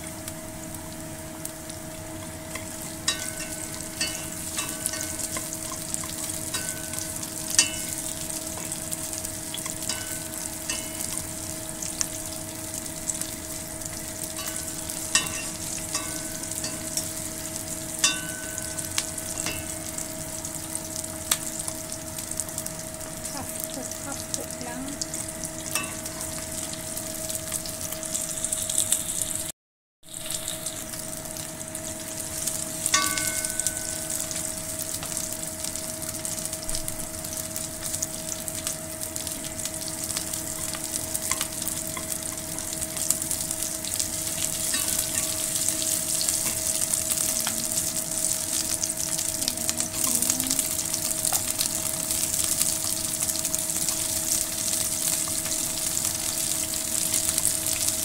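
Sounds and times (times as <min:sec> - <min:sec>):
steady hum: 0:00.0 - 0:29.4, 0:30.1 - 0:57.9
onion and garlic sizzling in oil: 0:00.0 - 0:29.5, 0:30.1 - 0:58.0.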